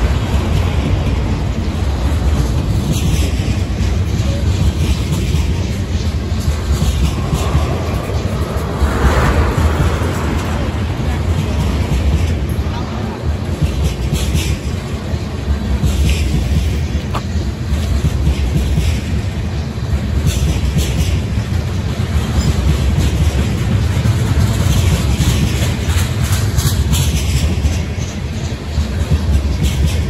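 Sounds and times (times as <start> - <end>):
train clicks and clanks: 0.0 - 30.0
train wheels rumbling on rails: 0.0 - 30.0.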